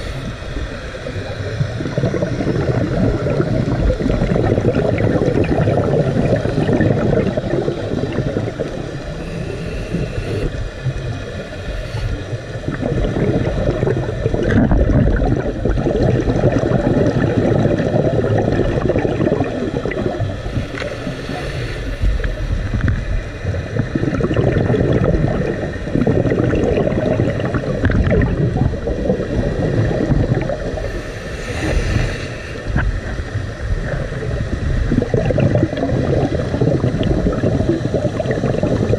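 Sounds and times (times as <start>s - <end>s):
underwater rushing and gurgling: 0.0s - 38.9s.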